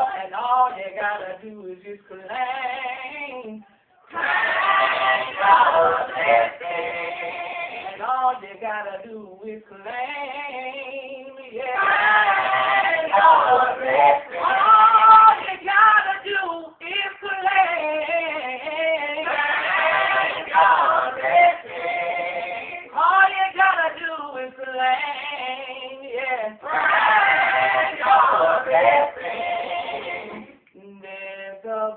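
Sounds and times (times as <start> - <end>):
gospel vocal group singing: 0.0 - 31.9.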